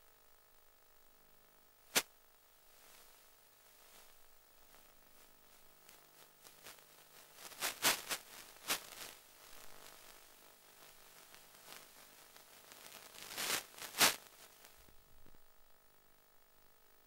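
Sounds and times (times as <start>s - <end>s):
faint steady hum: 0.0s - 17.0s
bursts of static hiss: 1.8s - 16.7s.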